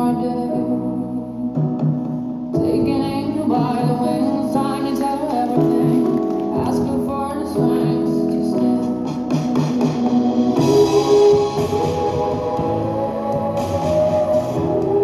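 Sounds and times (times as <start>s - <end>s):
woman singing: 0.0s - 1.4s, 2.6s - 15.0s
music over loudspeakers: 0.0s - 15.0s.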